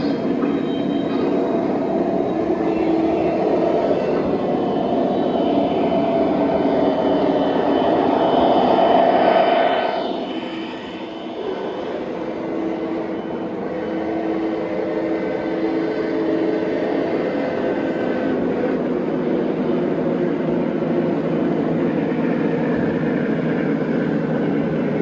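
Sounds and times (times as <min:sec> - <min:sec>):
model train running: 0:00.0 - 0:25.0.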